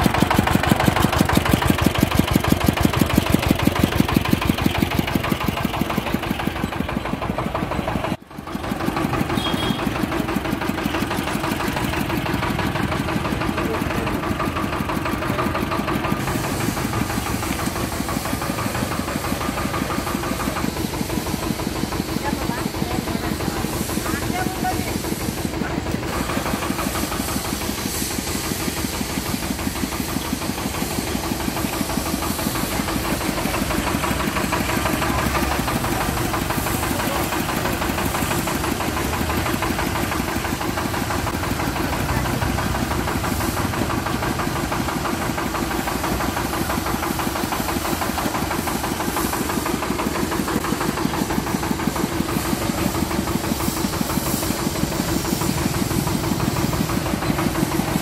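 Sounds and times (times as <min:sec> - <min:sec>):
juice extractor motor knocking: 0:00.0 - 0:58.0.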